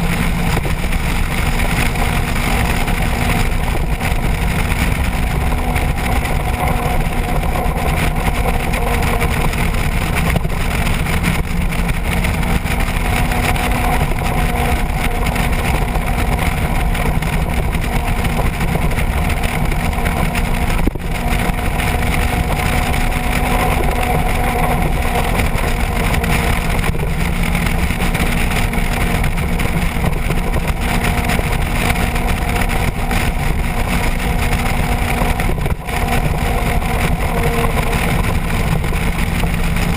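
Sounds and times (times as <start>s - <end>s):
motorcycle engine droning: 0.0s - 39.9s
wind rush on microphone: 0.0s - 39.9s.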